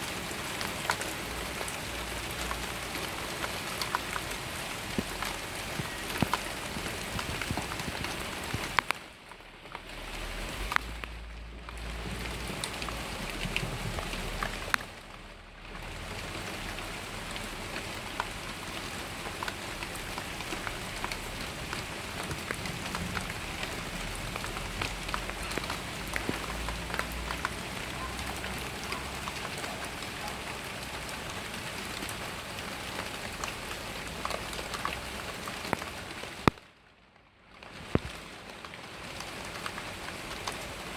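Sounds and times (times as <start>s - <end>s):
heavy rain falling: 0.0s - 40.9s
raindrops ticking on a surface: 0.0s - 40.9s.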